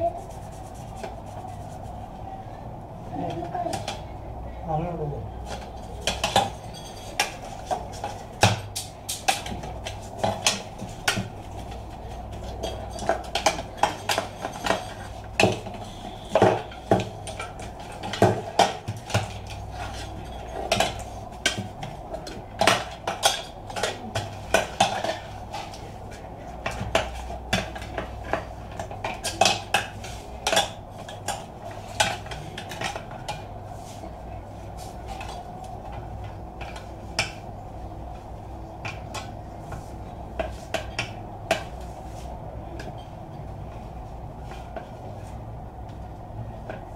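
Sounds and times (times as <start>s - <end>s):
steady background hum: 0.0s - 46.9s.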